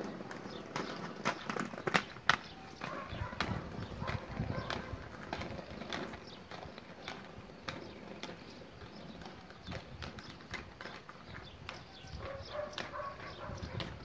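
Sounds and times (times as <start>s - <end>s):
skate wheels clicking over tiles: 0.0s - 14.0s.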